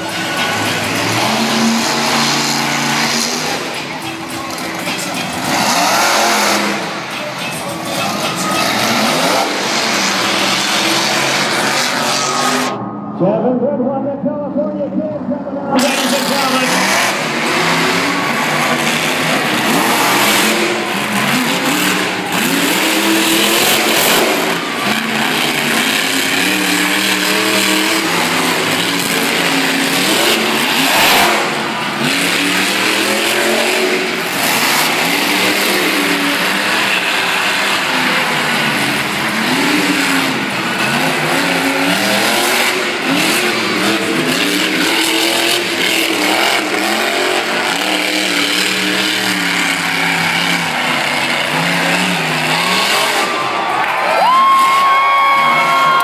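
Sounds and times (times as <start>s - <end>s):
monster truck engines revving: 0.0s - 56.0s.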